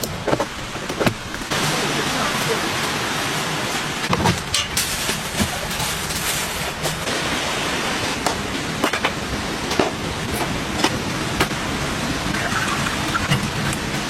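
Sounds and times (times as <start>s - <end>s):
heavy rain hissing: 0.5s - 14.0s.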